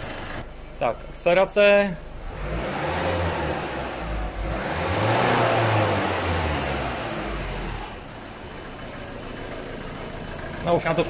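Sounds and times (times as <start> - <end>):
diesel engine revving: 2.1 - 11.0.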